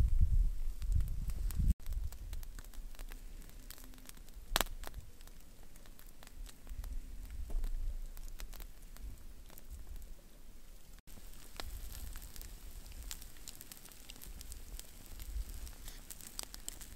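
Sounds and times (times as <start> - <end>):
campfire crackling and popping: 0.1 - 16.9.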